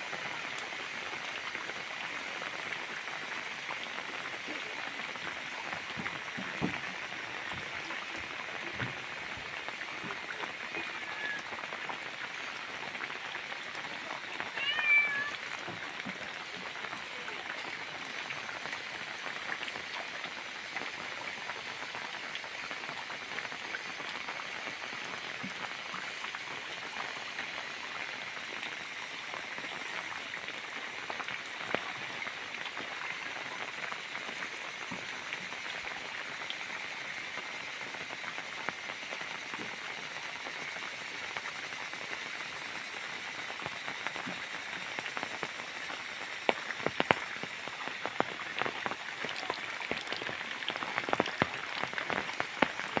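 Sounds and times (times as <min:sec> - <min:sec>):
rain patter: 0:00.0 - 0:53.0.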